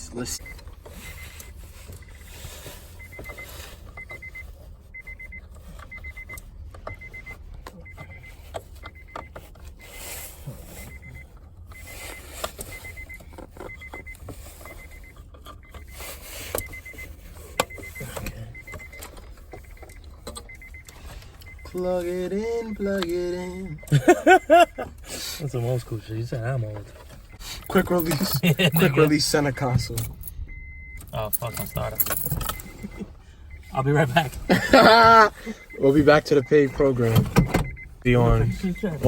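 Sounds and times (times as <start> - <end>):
faint electronic beep: 3.0 - 24.8, 25.4 - 39.0.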